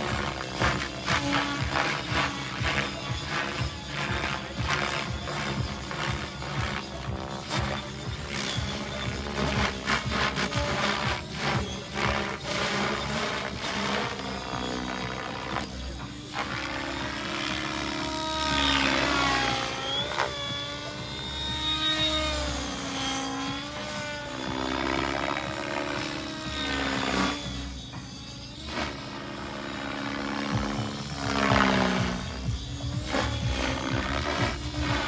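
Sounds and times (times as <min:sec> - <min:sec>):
rc helicopter motor whine: 0:00.0 - 0:35.0.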